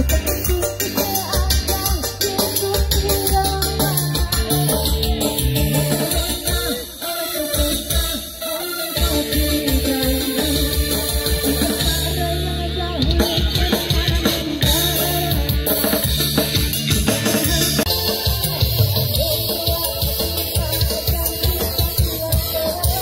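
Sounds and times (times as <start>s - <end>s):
loud dance music: 0.0s - 23.0s.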